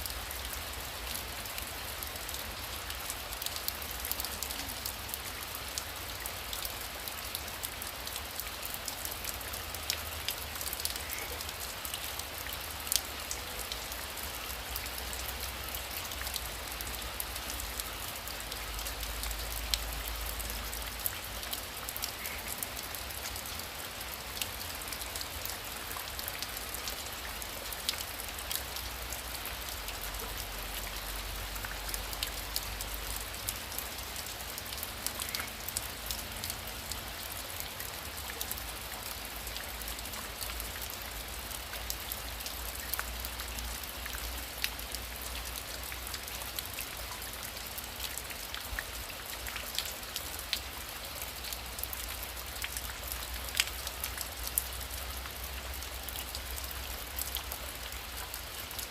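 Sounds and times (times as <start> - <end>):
heavy rain falling: 0.0 - 58.9
raindrops ticking: 0.0 - 58.9.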